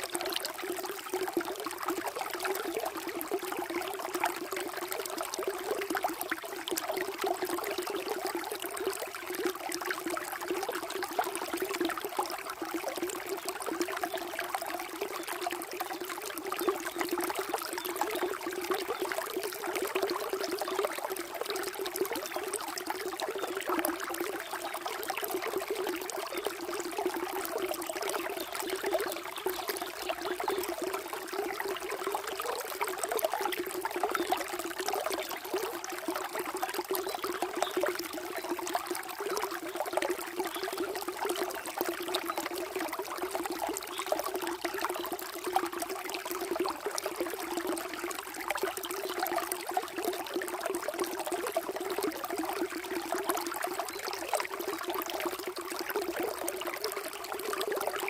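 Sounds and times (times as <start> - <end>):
running water flowing: 0.0 - 58.0.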